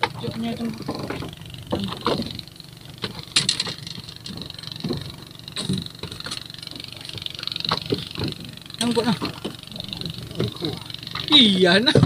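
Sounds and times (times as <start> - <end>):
small boat on open sea: 0.0 - 12.0
knocks and clicks from fishing gear: 0.8 - 11.3.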